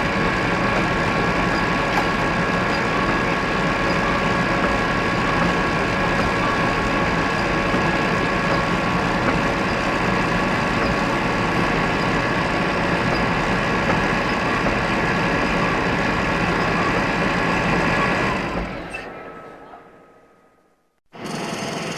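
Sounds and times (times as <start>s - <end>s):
factory machinery din: 0.1s - 20.8s.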